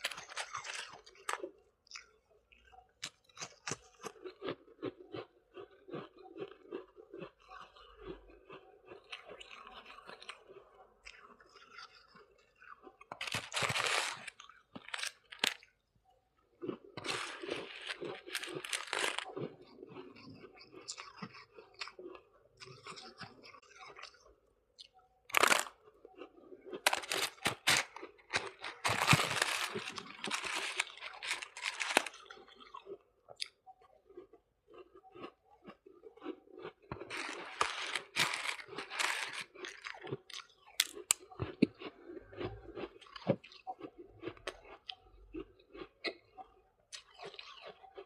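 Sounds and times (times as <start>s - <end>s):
crunching and chewing ice: 0.0s - 48.0s.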